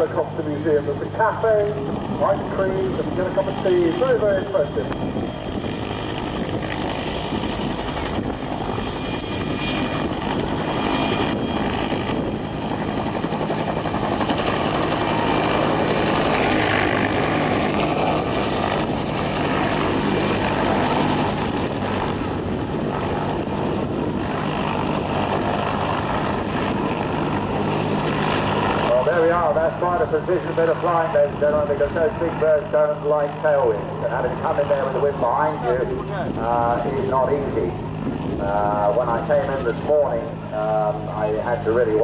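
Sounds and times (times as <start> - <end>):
helicopter hovering: 0.0 - 42.0.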